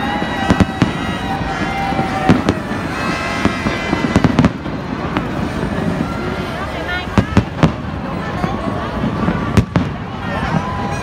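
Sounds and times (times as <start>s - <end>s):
fireworks bangs: 0.0s - 11.0s
steady noisy background: 0.0s - 11.0s.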